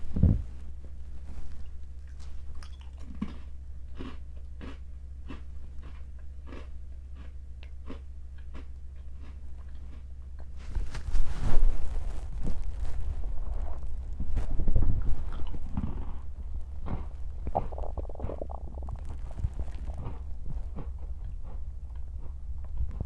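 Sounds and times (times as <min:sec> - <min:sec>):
steady low hum: 0:00.0 - 0:23.0
close-up chewing crunches: 0:01.4 - 0:11.0, 0:11.8 - 0:23.0.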